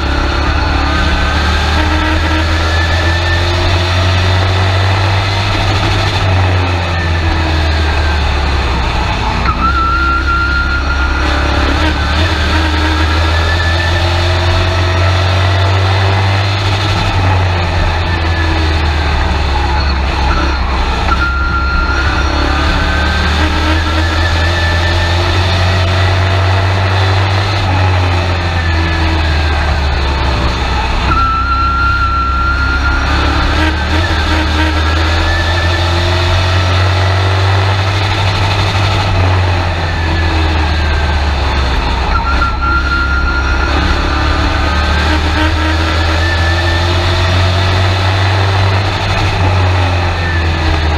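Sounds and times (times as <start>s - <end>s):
truck engine running: 0.0s - 50.9s.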